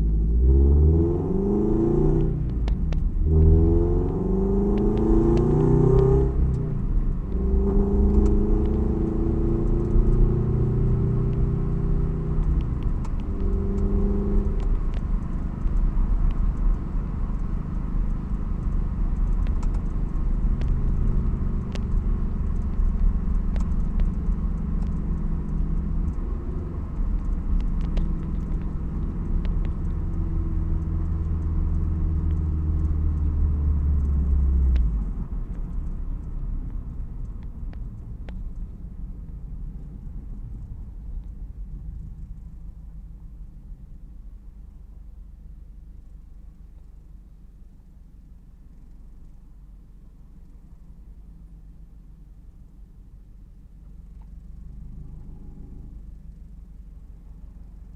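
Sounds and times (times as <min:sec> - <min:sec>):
car engine low rumble: 0:00.0 - 0:57.9.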